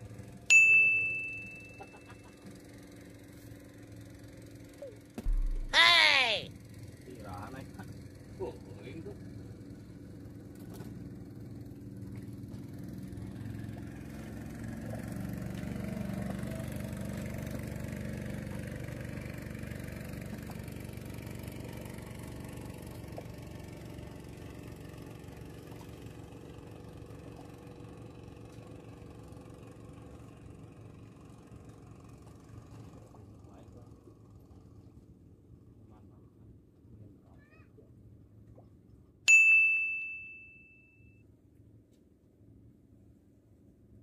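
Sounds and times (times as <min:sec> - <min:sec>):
small boat engine running: 0:00.0 - 0:39.2.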